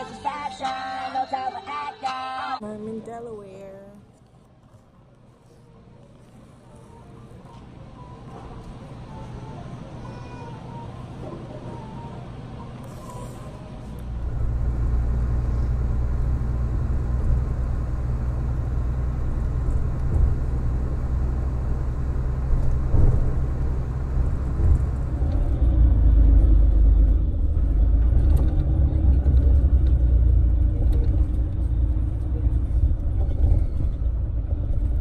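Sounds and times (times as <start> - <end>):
low rumble of moving vehicle: 5.0 - 35.0.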